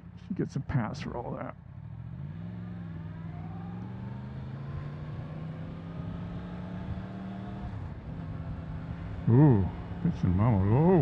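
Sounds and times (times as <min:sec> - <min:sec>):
wind and road noise: 0:00.0 - 0:11.0
motorcycle engine revving: 0:01.8 - 0:11.0.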